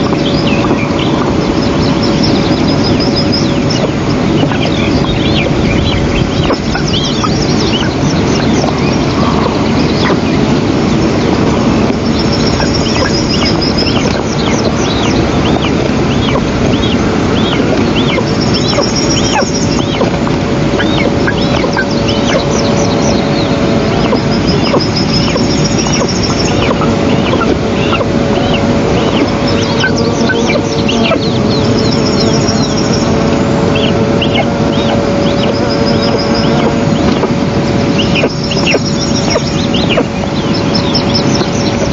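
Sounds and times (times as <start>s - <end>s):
eaglets chirping: 0.0s - 41.9s
songbird trill: 0.0s - 41.9s.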